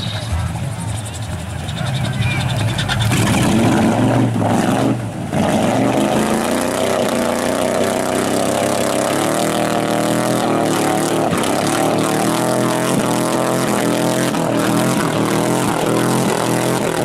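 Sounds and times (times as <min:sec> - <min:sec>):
truck engine running hard: 0:00.0 - 0:17.0.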